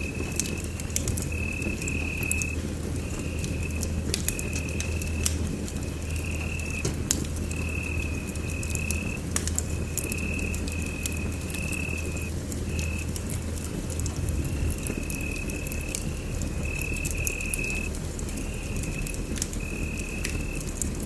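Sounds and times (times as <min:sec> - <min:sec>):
steady low rumble: 0:00.0 - 0:21.0
wood fire crackling: 0:00.0 - 0:21.0.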